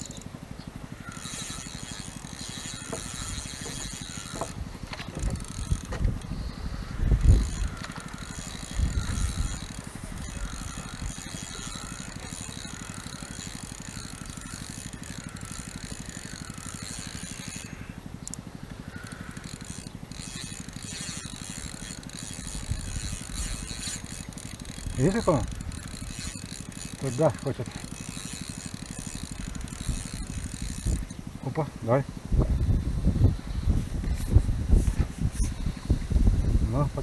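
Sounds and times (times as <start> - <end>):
fishing reel whirring: 0.0 - 37.0.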